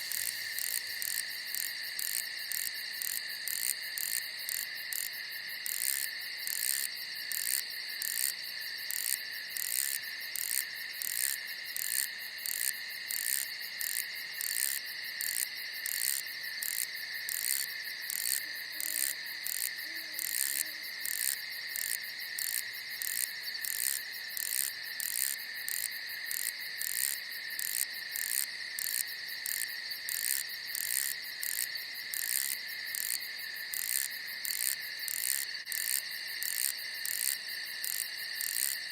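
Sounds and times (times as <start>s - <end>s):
night insects chirping: 0.0s - 38.9s.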